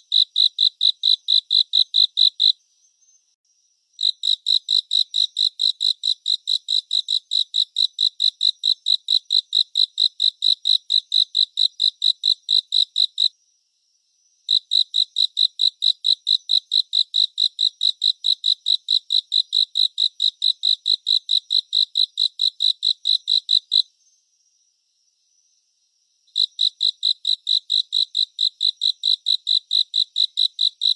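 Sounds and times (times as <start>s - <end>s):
cricket chirping: 0.0s - 30.9s.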